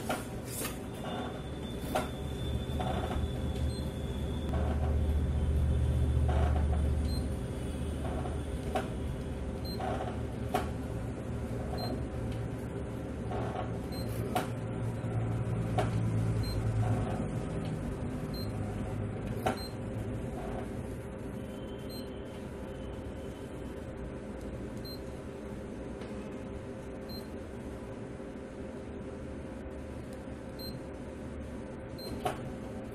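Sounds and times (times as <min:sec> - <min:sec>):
copier humming: 0:00.0 - 0:32.9.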